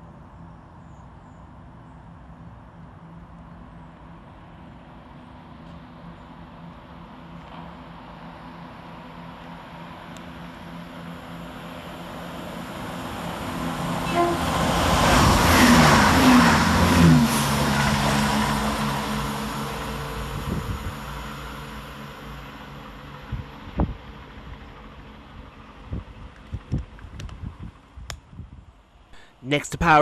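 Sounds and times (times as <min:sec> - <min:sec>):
diesel train passing at speed: 0:00.0 - 0:29.2.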